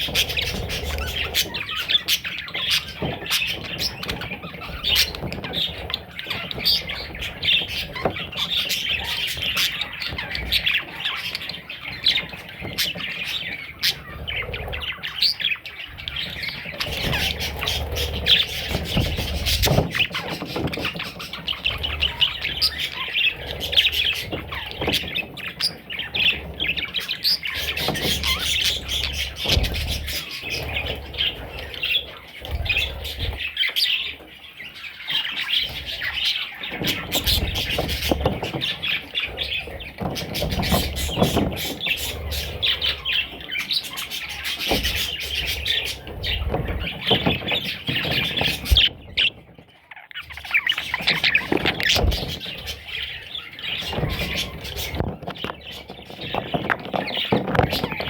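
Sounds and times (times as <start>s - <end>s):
bird chicks chirping and squawking: 0.0s - 58.0s.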